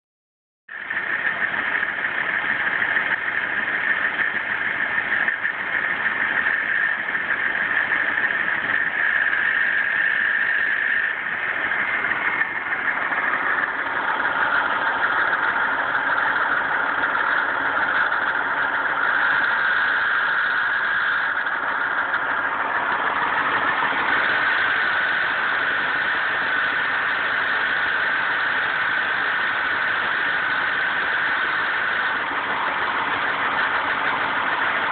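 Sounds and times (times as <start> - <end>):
high-pitched grinding noise: 0.7 - 34.9
vehicle engine running: 0.7 - 34.9.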